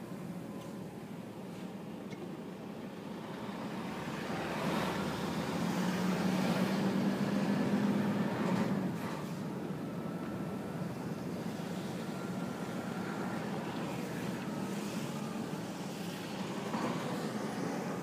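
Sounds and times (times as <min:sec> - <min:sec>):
truck engine drone: 0:00.0 - 0:18.0.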